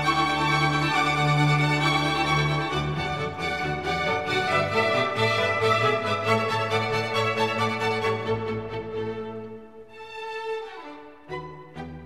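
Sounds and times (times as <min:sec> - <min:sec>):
orchestral strings: 0:00.0 - 0:12.0.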